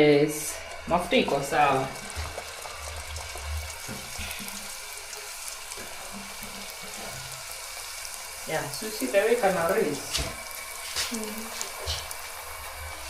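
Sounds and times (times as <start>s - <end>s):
dough sizzling in hot oil: 0.2s - 13.0s.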